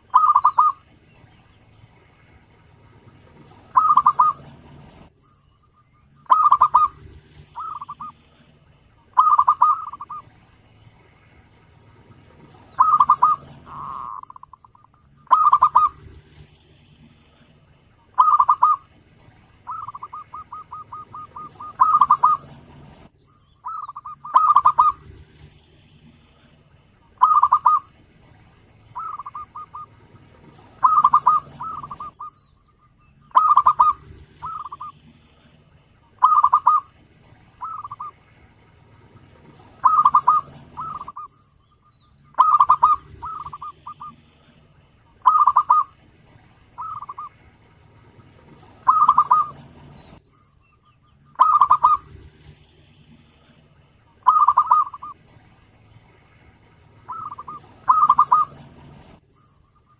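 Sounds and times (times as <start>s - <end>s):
dove cooing: 0.0s - 50.2s, 51.0s - 59.9s.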